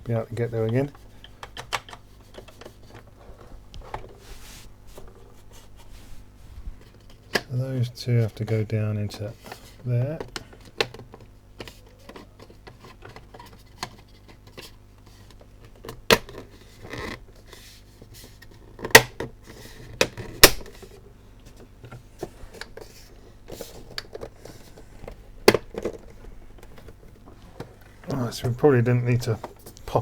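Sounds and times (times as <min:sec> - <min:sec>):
plastic parts clicking and knocking: 0:00.4 - 0:04.2, 0:08.2 - 0:30.0.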